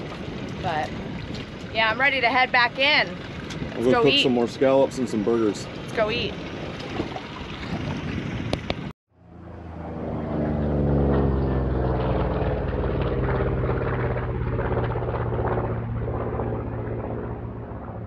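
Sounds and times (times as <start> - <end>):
boat motor droning: 0.0 - 18.0.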